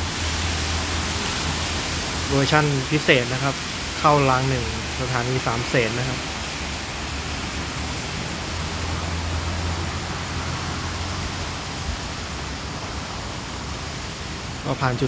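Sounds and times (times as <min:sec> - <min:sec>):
distant diesel locomotive rumble: 0:00.0 - 0:15.0
steady rushing noise: 0:00.0 - 0:15.0.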